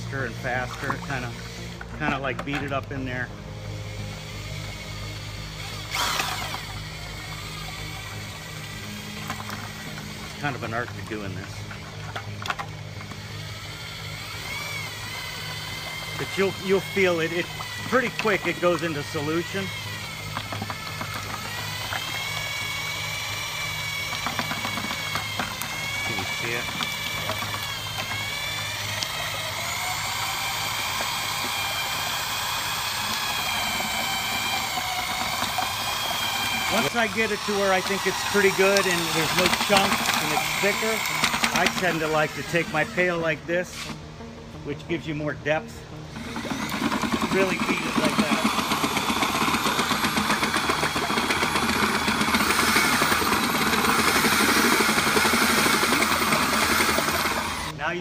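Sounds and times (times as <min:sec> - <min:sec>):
paddle mixer churning thick liquid: 0:00.0 - 0:44.0, 0:46.1 - 0:57.8
electric drill whining: 0:00.0 - 0:44.1, 0:45.9 - 0:57.8.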